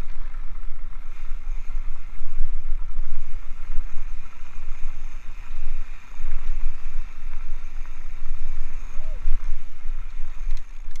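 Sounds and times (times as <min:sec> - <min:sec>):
bike tyre rumble and rattle: 0:00.0 - 0:11.0
wind buffeting microphone: 0:00.0 - 0:11.0.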